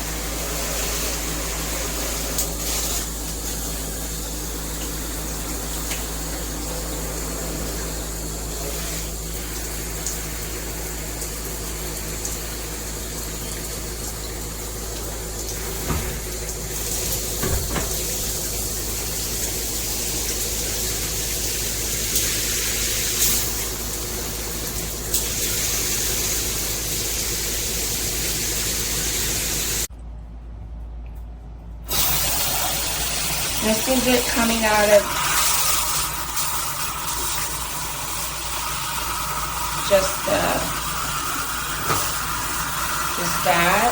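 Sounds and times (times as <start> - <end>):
water spraying from shower head: 0.0 - 29.9, 31.9 - 43.9.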